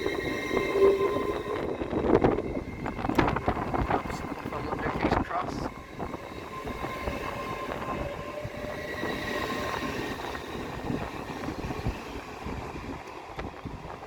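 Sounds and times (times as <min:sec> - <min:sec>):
high multi-tone whine: 0:00.0 - 0:12.1
train passing: 0:00.0 - 0:14.0
wind buffeting microphone: 0:00.0 - 0:14.0.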